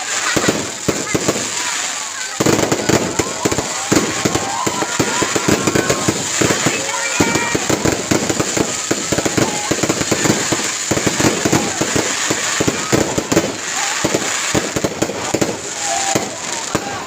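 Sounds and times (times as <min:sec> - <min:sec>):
firecrackers and fireworks crackling: 0:00.0 - 0:17.0.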